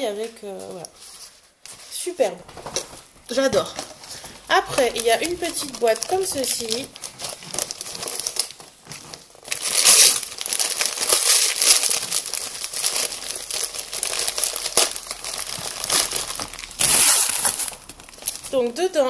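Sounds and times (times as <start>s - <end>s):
wrapping paper crinkling: 0.1s - 18.8s.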